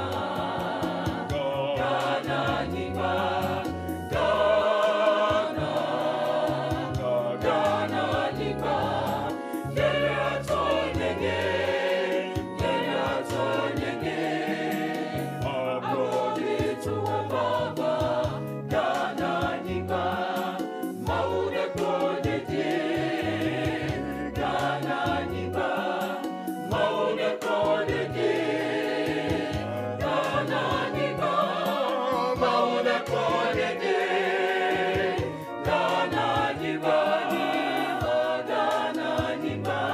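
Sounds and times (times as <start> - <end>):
choir singing gospel: 0.0 - 39.9.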